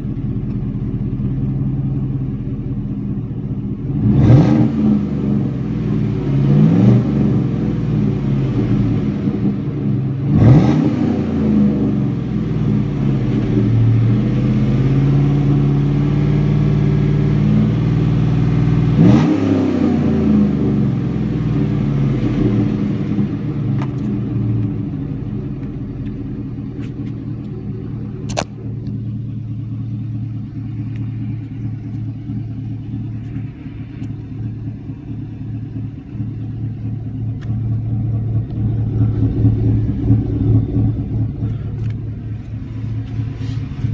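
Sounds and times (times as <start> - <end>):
engine pulsing idle: 0.0 - 43.9
truck engine revving: 3.9 - 24.1, 26.9 - 43.9.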